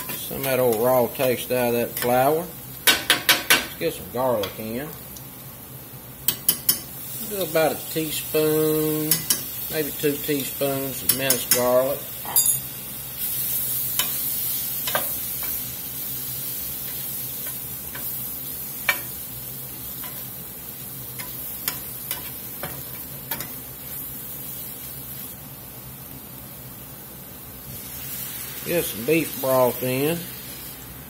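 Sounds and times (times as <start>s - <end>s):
food sizzling in a skillet: 0.0s - 31.0s.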